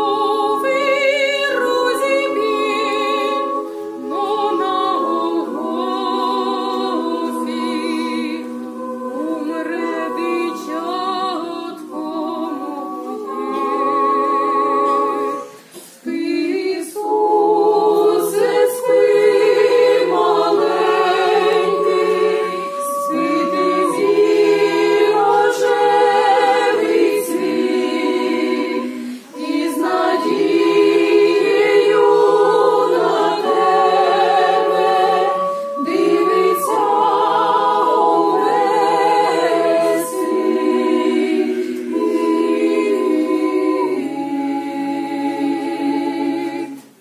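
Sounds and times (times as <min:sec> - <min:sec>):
choir singing unaccompanied: 0:00.0 - 0:47.0.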